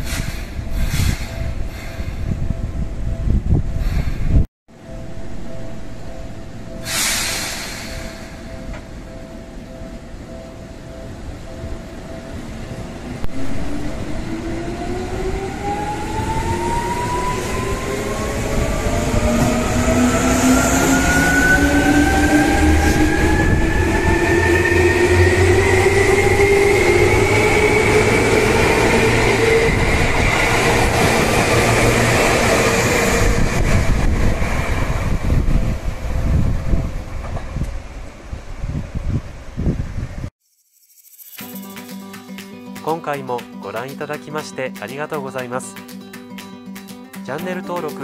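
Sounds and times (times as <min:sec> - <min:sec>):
wheels rumbling on rails: 0:00.0 - 0:40.3.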